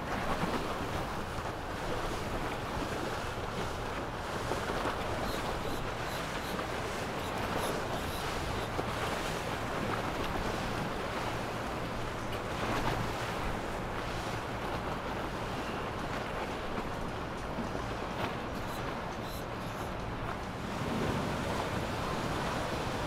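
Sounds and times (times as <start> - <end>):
outboard motors running: 0.0 - 23.0
water splashing off hull: 0.0 - 23.0.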